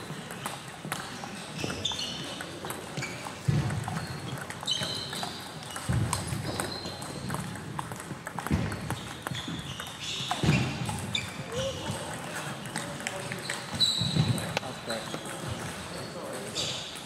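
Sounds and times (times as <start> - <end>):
shoes squeaking on wooden floor: 0.9 - 17.0.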